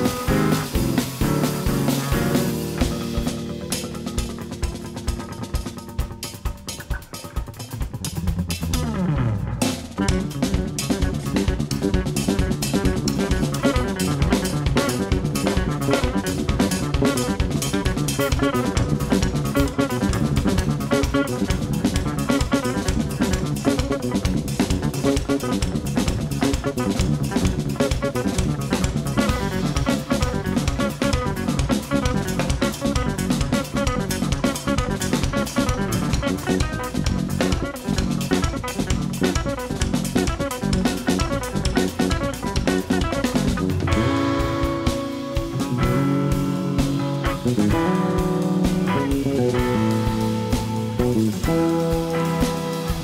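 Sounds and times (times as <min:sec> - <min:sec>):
busy drumming: 0:00.0 - 0:53.0
jazz trio playing: 0:00.0 - 0:53.0.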